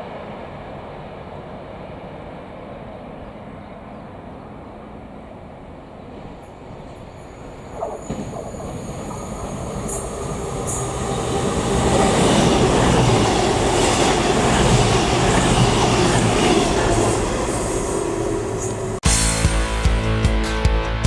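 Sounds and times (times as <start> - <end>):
diesel train passing at speed: 0.0 - 19.1.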